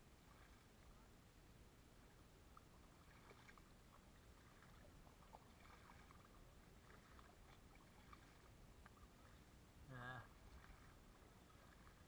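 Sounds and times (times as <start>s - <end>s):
paddle drips and splashes: 0.0s - 1.0s, 2.0s - 12.0s.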